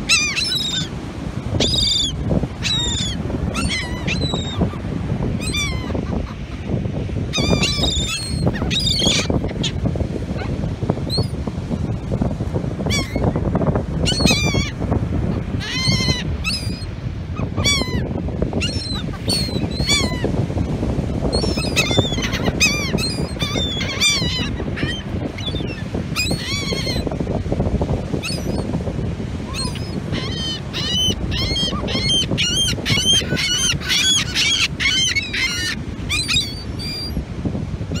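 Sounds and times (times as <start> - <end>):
gulls calling: 0.0 - 12.1, 14.0 - 20.4, 21.1 - 27.2, 29.4 - 37.2.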